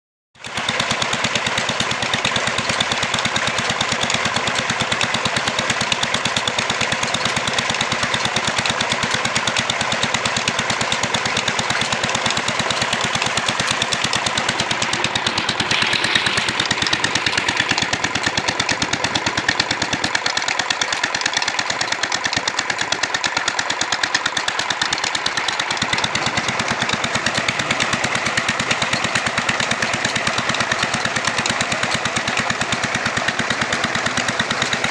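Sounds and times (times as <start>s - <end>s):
diesel engine running: 0.4s - 34.9s.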